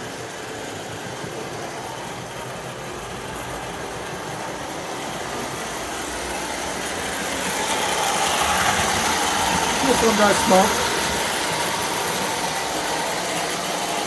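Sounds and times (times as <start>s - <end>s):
toy train running on rails: 0.0s - 14.0s.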